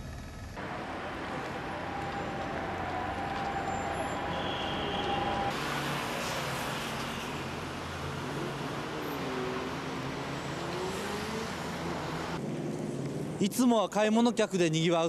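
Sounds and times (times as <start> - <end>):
road traffic noise: 0.0 - 14.4.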